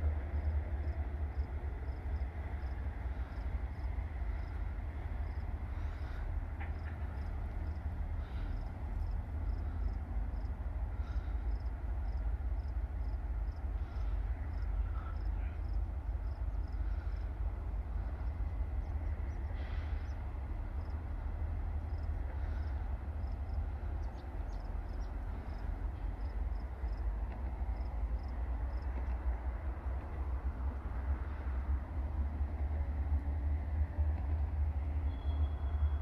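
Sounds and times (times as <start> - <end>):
diesel locomotive rumble: 0.0 - 36.0.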